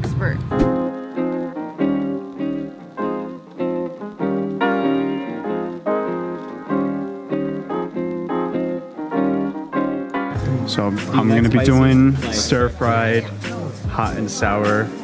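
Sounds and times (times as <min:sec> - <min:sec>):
keyboard playing repeated chords: 0:00.5 - 0:15.0.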